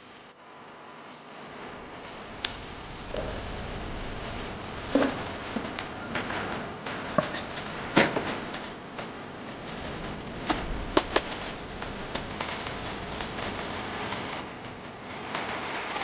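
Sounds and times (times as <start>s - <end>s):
sausage sizzling with pops: 1.8s - 16.0s.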